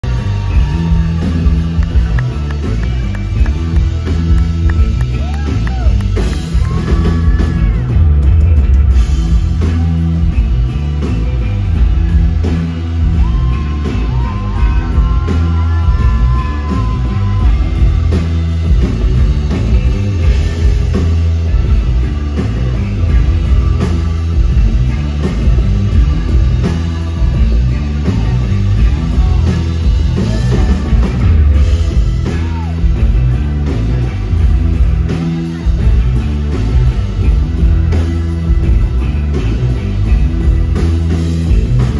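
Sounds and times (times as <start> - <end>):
bass guitar: 0.0 - 41.9
drums: 0.0 - 41.9.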